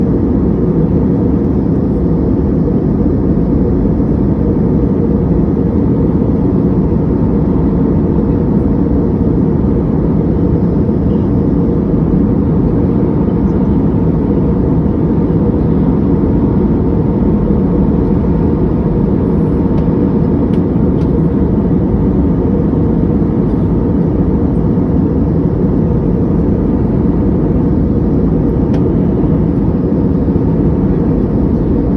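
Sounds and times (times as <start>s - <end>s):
airliner cabin engine rumble: 0.0s - 31.9s.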